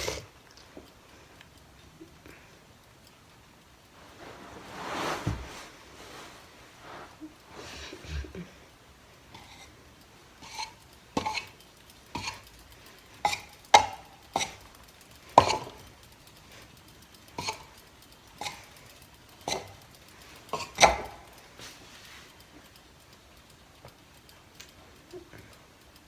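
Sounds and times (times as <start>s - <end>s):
ceiling fan running: 0.0s - 26.0s.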